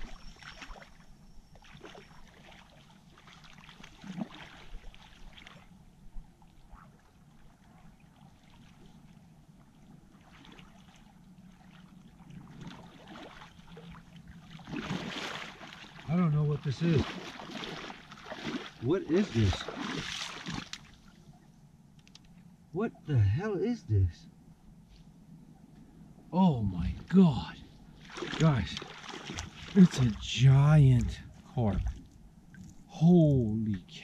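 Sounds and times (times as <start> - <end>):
water sloshing and splashing: 0.0 - 21.5, 27.8 - 33.8.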